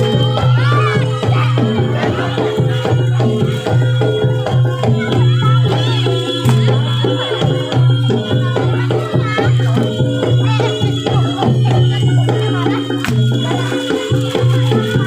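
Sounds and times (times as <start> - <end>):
drums and percussion: 0.0 - 15.0
wavering gliding melody: 1.5 - 15.0.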